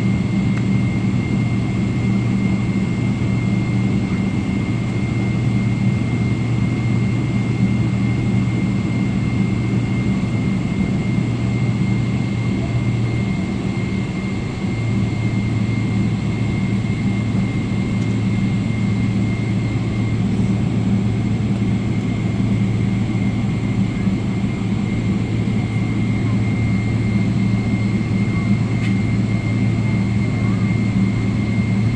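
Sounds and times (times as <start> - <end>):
jet engine cabin drone: 0.0 - 31.9.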